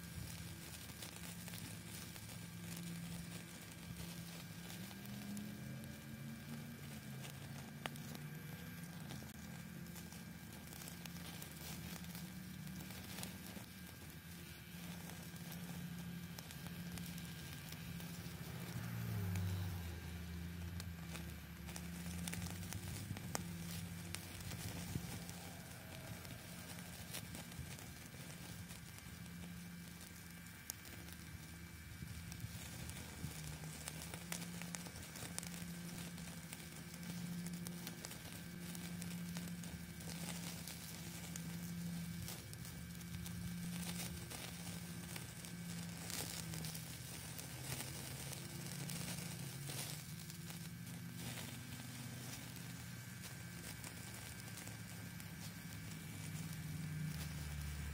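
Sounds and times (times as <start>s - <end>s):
blower fan humming: 0.0s - 57.9s
steaks sizzling on a grill: 0.0s - 57.9s
wood fire crackling: 0.0s - 57.9s.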